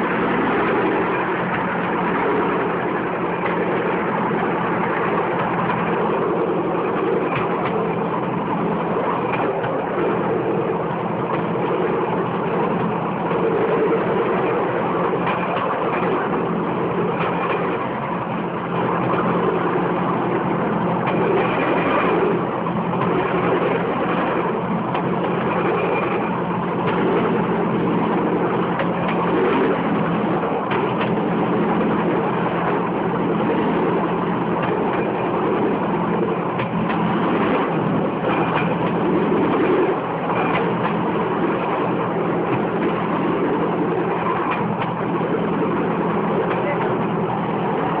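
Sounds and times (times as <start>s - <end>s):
wheels rattling on track: 0.0s - 48.0s.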